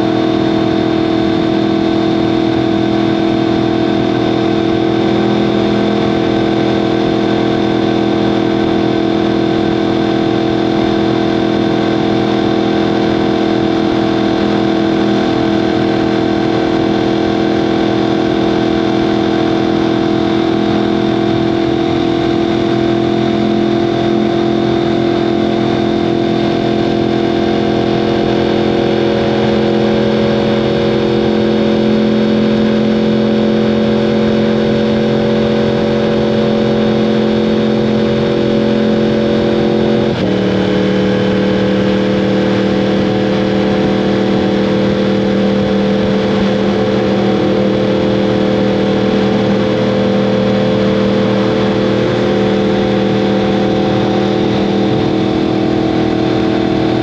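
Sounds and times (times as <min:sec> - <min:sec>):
motorcycle engine at steady revs: 0:00.0 - 0:57.0.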